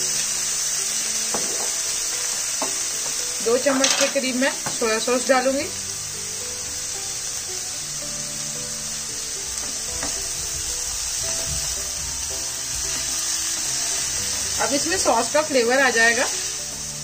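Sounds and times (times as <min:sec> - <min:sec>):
background music of held notes: 0:00.0 - 0:17.0
vegetables sizzling in a frying pan: 0:00.0 - 0:17.0.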